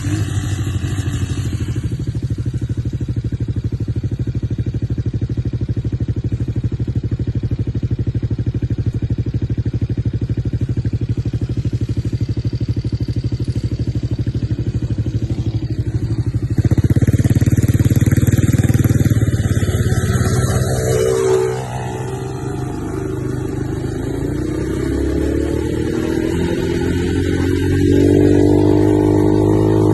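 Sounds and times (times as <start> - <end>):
quad engine running: 0.0 - 29.9.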